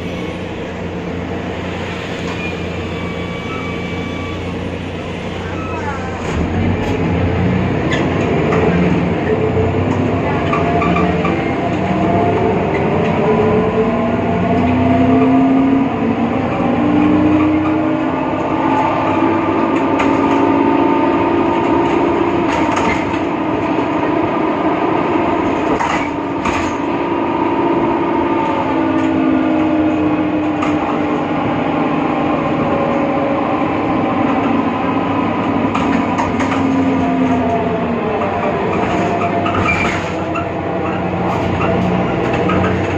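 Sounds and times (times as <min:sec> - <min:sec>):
bus driveline whine: 0:00.0 - 0:42.9.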